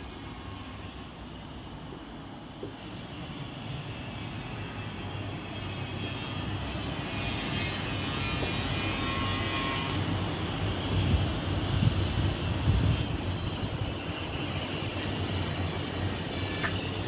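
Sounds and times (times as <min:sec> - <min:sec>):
steady outdoor roar with hiss: 0:00.0 - 0:17.0.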